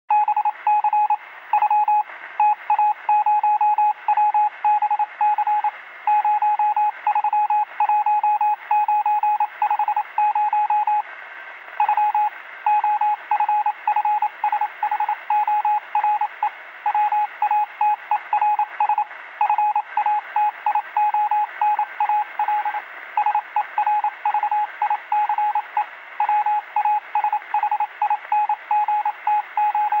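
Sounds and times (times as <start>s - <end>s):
morse code beeps over radio: 0.1s - 11.0s, 11.8s - 30.0s.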